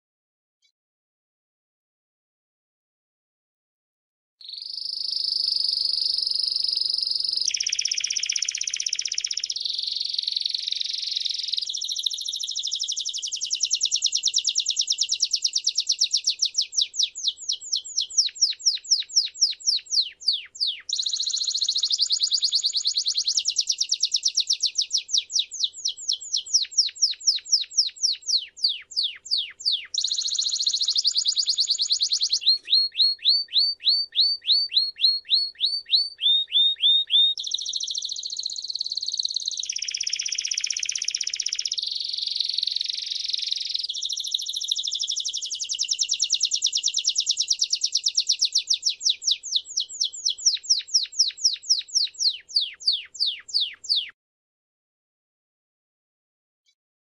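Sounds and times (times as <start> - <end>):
canary singing trills: 4.4 - 54.2.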